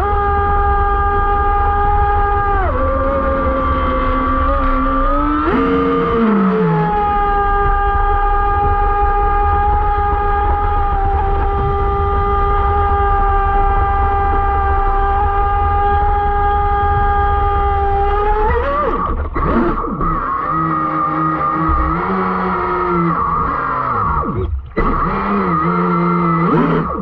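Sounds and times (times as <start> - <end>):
electric motor whining: 0.0 - 27.0
low rumble: 0.0 - 27.0.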